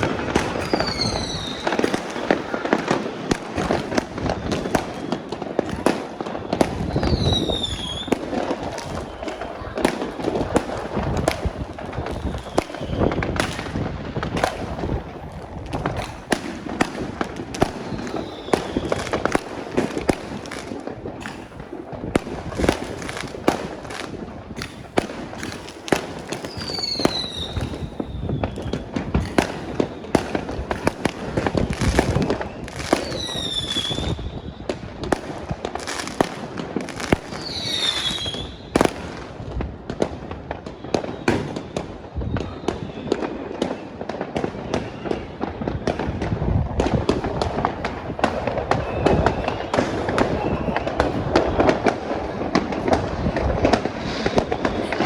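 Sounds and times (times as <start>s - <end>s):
falling firework whistles: 0.0s - 39.3s, 40.6s - 55.0s
fireworks bangs and crackling: 0.0s - 55.0s.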